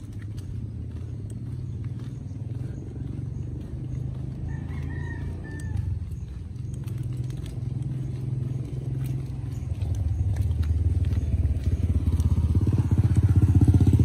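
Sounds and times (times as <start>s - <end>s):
motorcycle engine pulsing: 0.0s - 14.0s.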